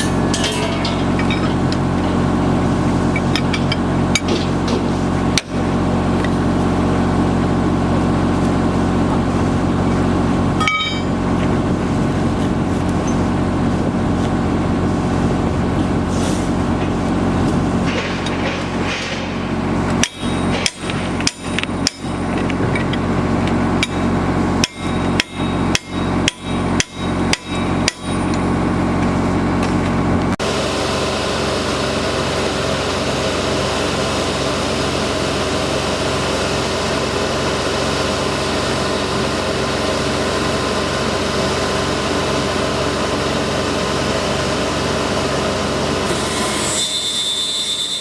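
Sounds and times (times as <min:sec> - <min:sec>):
construction machinery drone: 0:00.0 - 0:48.0.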